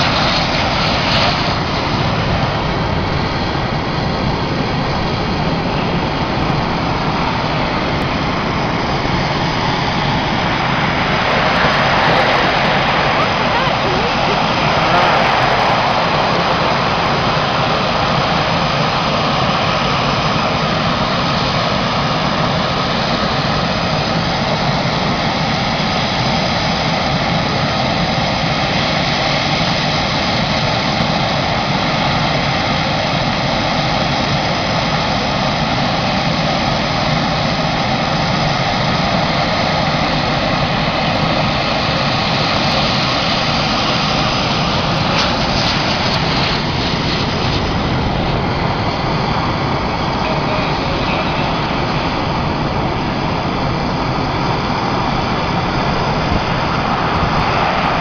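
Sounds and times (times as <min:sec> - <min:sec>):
faint jet whine: 0:00.0 - 0:58.0
jet engine roar: 0:00.0 - 0:58.0.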